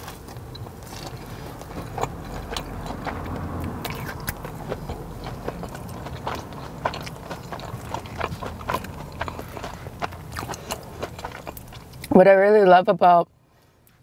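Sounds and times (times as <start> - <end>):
close chewing with crunches: 0.0 - 12.2.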